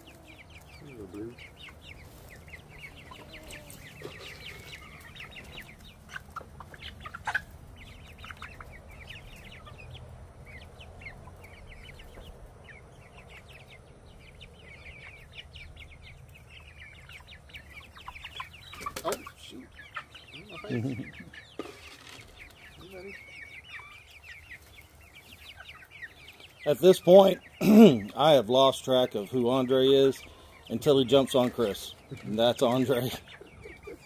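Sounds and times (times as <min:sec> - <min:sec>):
young chickens clucking: 0:00.0 - 0:34.0.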